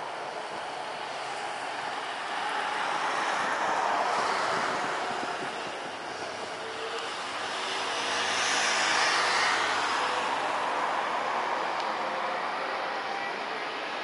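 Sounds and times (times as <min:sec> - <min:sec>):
high jet engine whine: 0:00.0 - 0:14.0.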